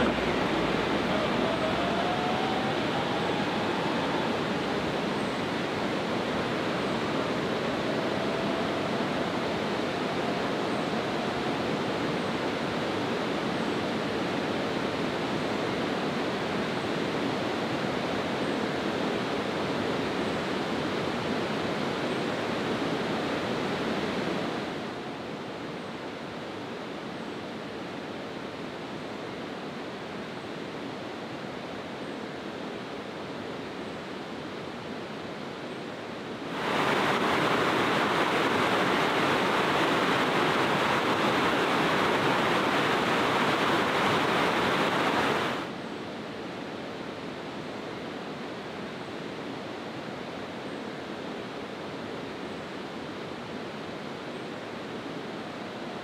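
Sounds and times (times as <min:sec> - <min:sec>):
rushing river water: 0:00.0 - 0:55.9.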